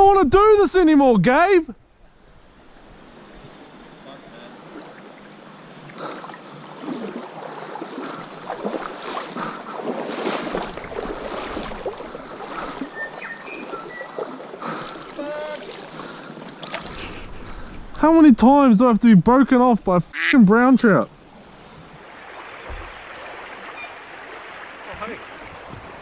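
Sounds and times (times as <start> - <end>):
wading through shallow water: 1.9 - 26.0.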